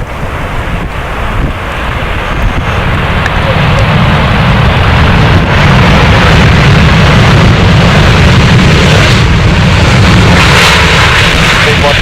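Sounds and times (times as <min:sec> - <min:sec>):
jet engines with low rumble: 0:00.0 - 0:12.0.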